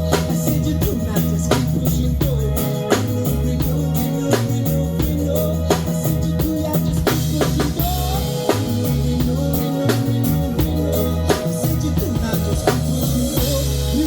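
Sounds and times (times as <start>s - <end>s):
drum kit beat: 0.0s - 14.0s
low bass notes: 0.0s - 14.0s.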